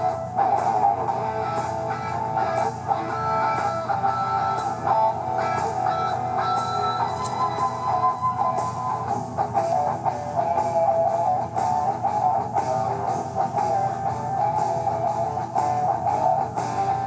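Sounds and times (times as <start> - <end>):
guitar rock music: 0.0 - 17.0.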